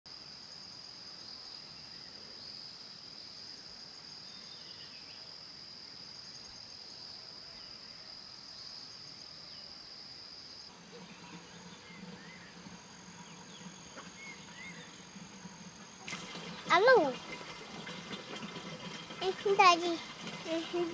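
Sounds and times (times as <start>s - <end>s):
insects chirring: 0.1s - 20.9s.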